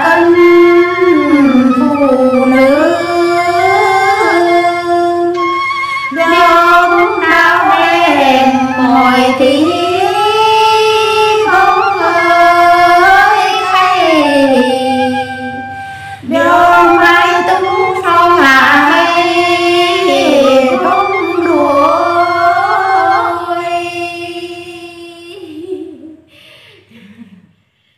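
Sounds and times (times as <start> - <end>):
women singing folk song: 0.0 - 26.0.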